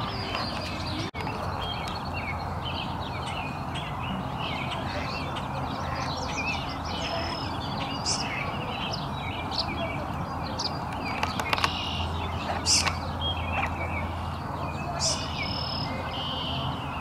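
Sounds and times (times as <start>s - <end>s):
ducklings peeping: 0.0s - 17.0s.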